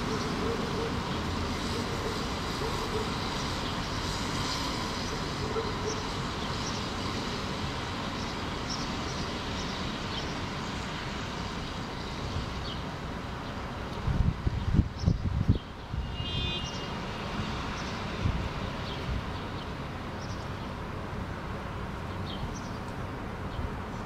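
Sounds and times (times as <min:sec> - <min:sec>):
distant city traffic rumble: 0:00.0 - 0:24.0.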